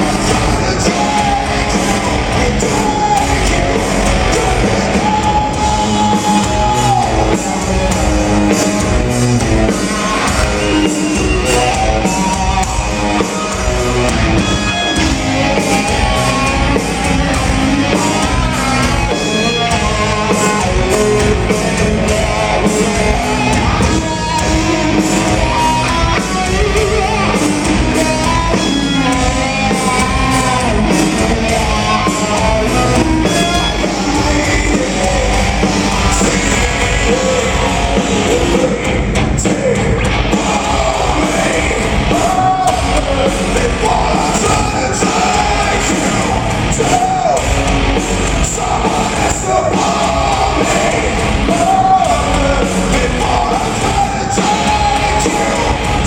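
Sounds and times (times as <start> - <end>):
lead vocal singing: 0.0 - 56.0
live rock band playing: 0.0 - 56.0.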